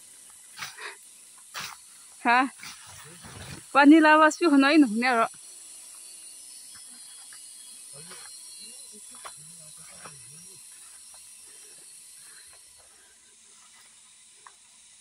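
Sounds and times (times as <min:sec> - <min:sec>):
high insect hiss: 0:00.0 - 0:15.0.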